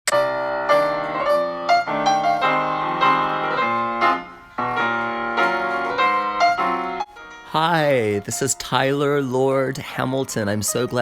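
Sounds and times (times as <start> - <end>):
piano music: 0.1 - 11.0.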